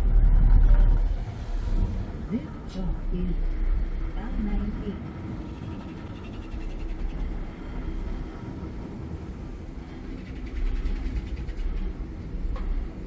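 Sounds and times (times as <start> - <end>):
ferry engines rumbling: 0.0 - 13.0.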